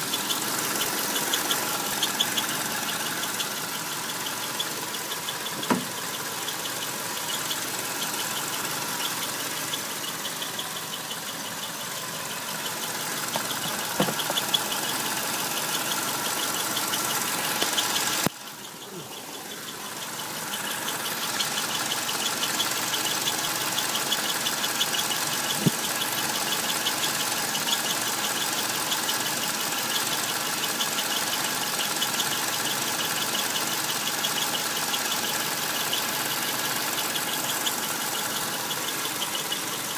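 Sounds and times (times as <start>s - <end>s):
car engine idling: 0.0s - 39.9s
fast rhythmic high squeak: 0.0s - 39.9s.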